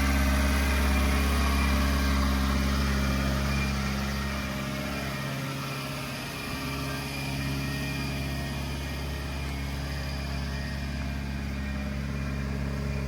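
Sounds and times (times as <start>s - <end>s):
small truck engine running: 0.0s - 13.0s.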